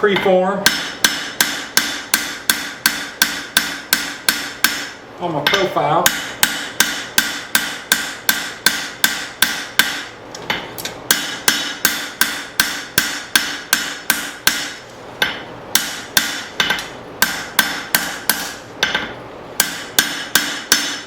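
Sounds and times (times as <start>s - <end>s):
hammer striking hot steel: 0.6s - 21.0s.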